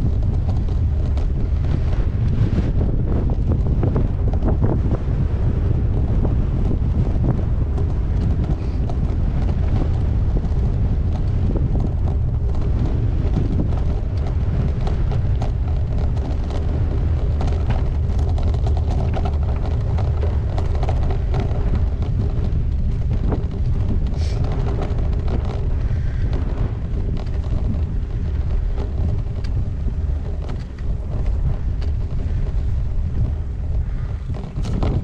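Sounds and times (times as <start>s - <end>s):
bicycle clicks and rattles: 0.0s - 35.0s
wind buffeting microphone: 0.0s - 35.0s.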